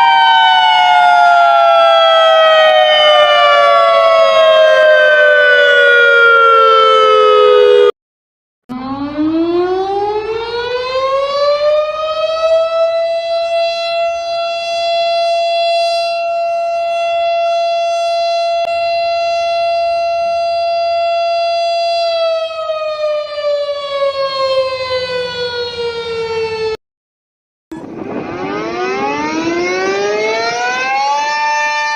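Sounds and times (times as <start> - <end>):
outdoor warning siren winding: 0.0 - 7.9, 8.7 - 26.8, 27.7 - 31.9.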